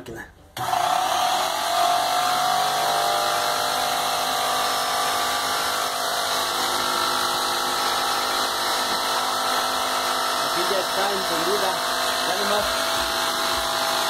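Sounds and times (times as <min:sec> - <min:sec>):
paint sprayer motor and pump running: 0:00.6 - 0:14.0.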